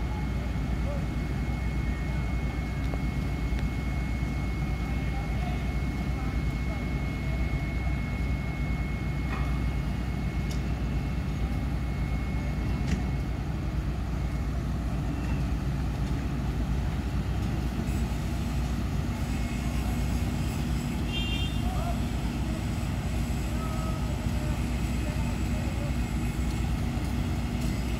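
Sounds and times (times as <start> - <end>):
diesel engines droning: 0.0 - 27.9.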